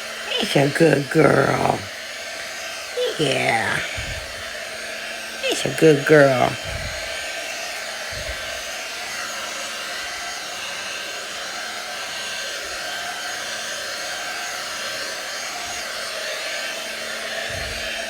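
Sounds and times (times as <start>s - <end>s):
pet hair dryer blowing air: 0.0s - 18.0s.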